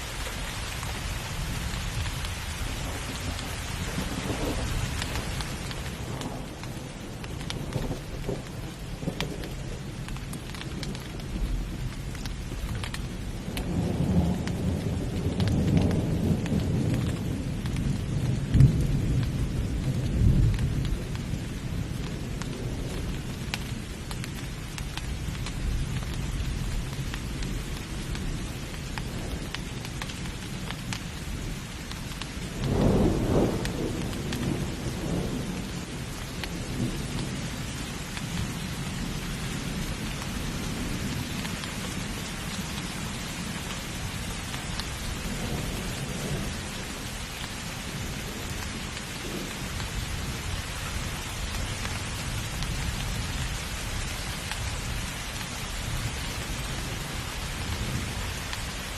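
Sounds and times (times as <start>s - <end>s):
steady rain falling: 0.0s - 58.9s
thunder rumbling: 0.1s - 58.9s.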